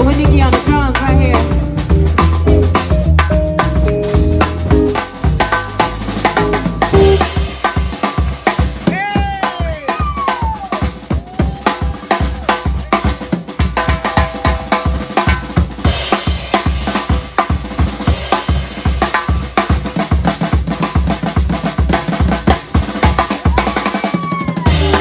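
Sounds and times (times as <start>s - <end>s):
bass drum and snare strokes: 0.0s - 25.0s.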